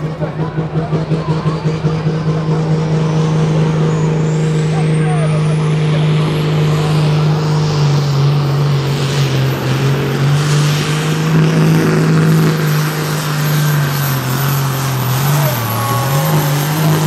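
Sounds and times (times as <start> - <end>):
diesel engine running at high revs: 0.0 - 17.0.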